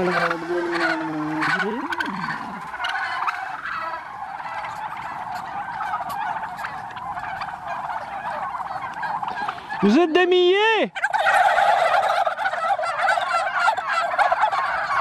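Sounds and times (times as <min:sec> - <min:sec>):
turkeys gobbling: 0:00.0 - 0:15.0.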